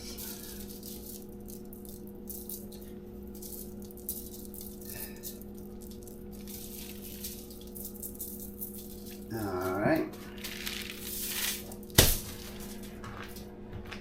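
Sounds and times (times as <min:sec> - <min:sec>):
shaker bottle rattling granules: 0:00.0 - 0:09.4, 0:10.2 - 0:13.4
steady low hum: 0:00.0 - 0:14.0.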